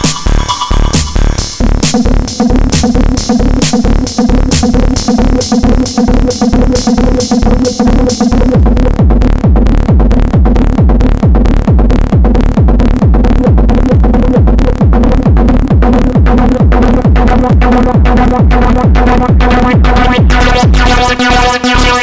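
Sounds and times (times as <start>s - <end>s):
fast kick drum: 0.0s - 22.0s.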